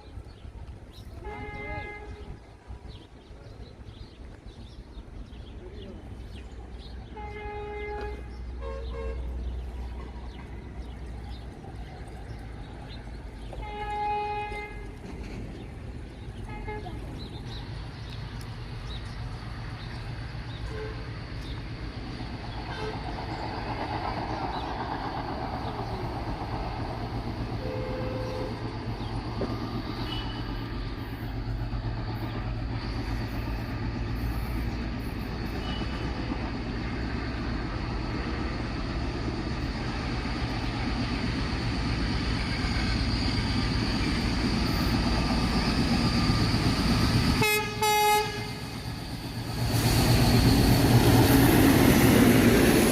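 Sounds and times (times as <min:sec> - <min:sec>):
freight train rumbling on track: 0:00.0 - 0:52.9.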